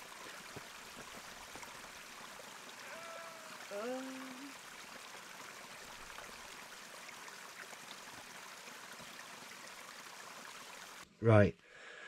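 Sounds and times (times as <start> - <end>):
faint running water: 0.0 - 11.4.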